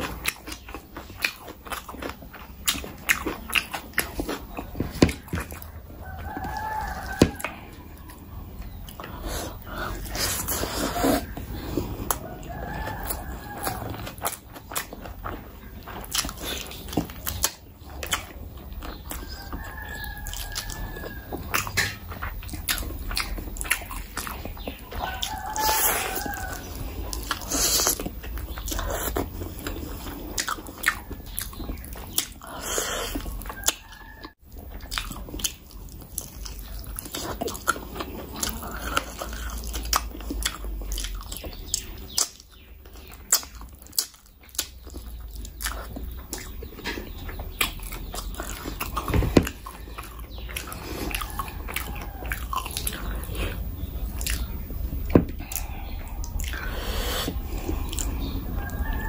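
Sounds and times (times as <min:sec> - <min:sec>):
chewing and wet mouth sounds: 0:00.0 - 0:59.0.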